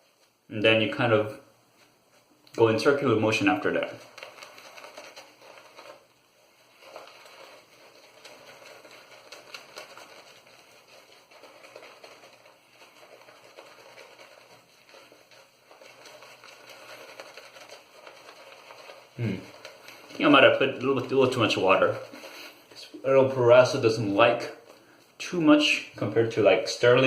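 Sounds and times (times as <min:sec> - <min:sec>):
shaving brush wet lather crackle: 0:01.8 - 0:27.0.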